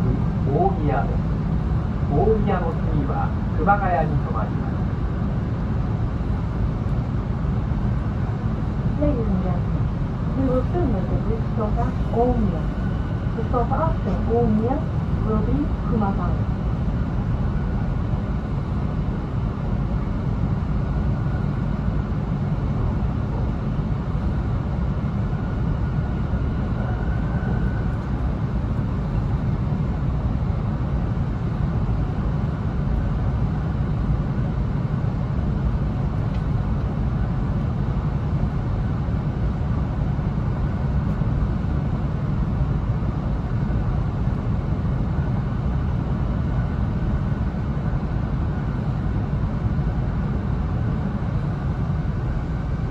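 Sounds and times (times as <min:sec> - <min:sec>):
deep train rumble on track: 0:00.0 - 0:52.9.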